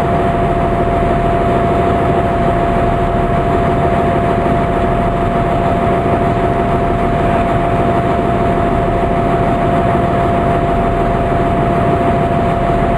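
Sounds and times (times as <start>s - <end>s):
constant whine: 0.0s - 12.9s
train diesel engines: 0.0s - 12.9s.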